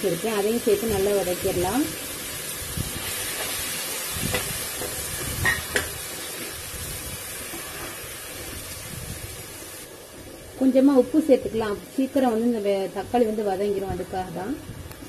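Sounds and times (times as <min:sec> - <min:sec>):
vegetables sizzling in hot fat: 0:00.0 - 0:14.6.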